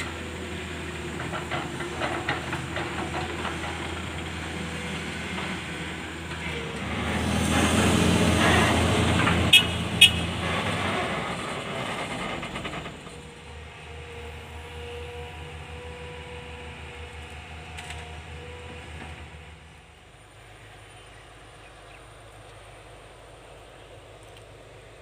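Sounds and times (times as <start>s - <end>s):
diesel truck engine: 0.0s - 25.0s.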